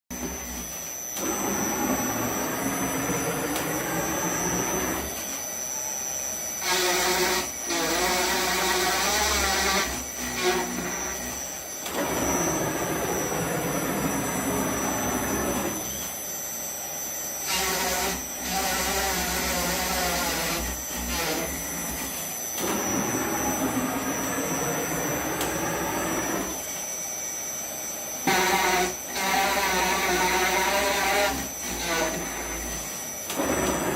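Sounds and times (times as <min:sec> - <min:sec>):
router bit cutting material: 0:00.1 - 0:33.9.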